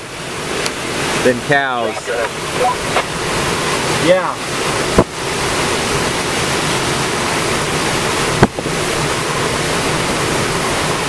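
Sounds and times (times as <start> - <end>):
heavy rain: 0.0 - 11.0
storm wind: 0.0 - 11.0.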